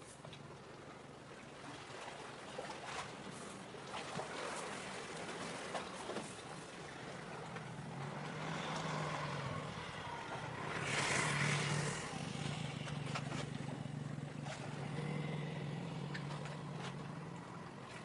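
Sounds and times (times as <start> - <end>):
ship engines droning: 3.2 - 18.0.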